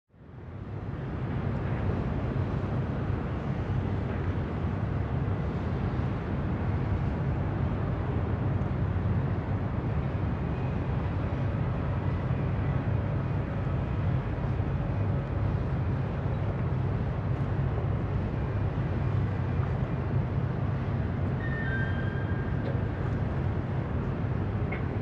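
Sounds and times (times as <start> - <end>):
boat engine drone: 0.4 - 25.0.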